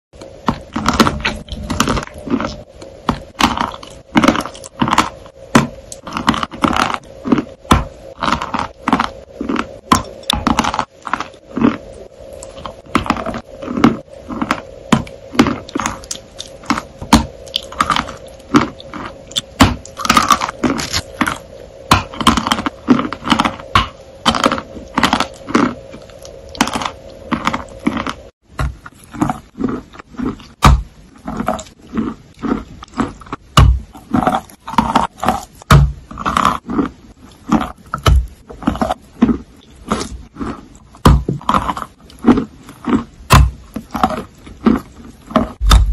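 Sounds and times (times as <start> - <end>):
crunchy biting and chewing: 0.2 - 45.9
steady hum: 0.2 - 45.9.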